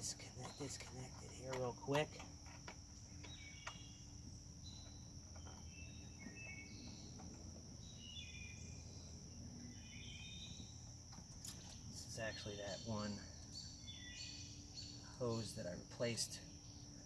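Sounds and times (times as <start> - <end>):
crickets chirping: 0.0 - 17.0
bird chirps: 3.0 - 17.0.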